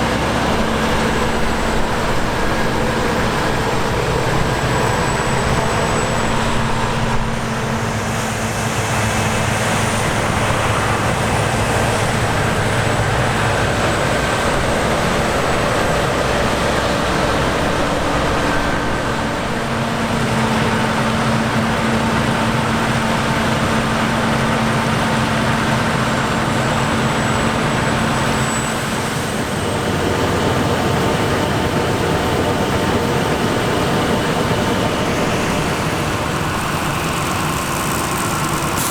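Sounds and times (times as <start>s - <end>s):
heavy machinery diesel drone: 0.0s - 38.9s.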